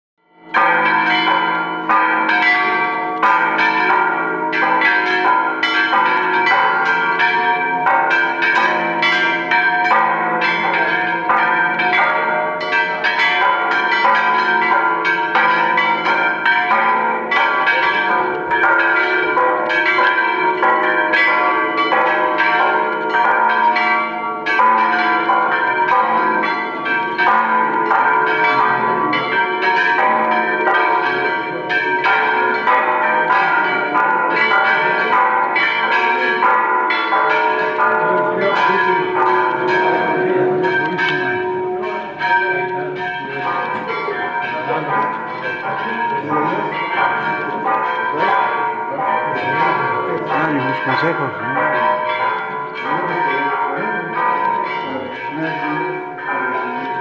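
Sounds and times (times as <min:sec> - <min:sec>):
church bells ringing a peal: 0:00.3 - 0:57.0.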